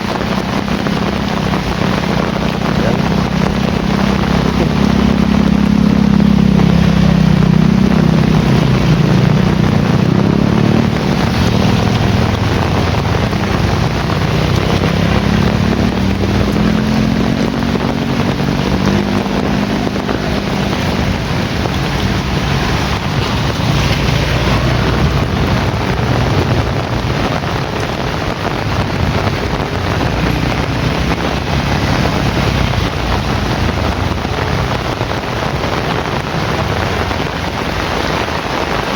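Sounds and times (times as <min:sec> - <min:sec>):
heavy rain pouring: 0:00.0 - 0:38.9
rolling thunder rumble: 0:00.0 - 0:38.9.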